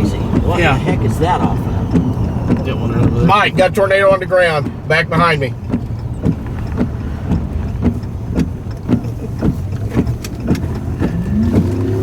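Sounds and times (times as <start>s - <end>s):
engine and road noise: 0.0s - 12.0s.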